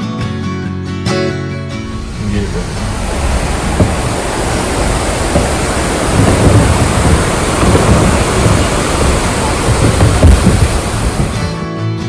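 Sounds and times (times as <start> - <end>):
stream rushing over rocks: 1.8 - 11.6.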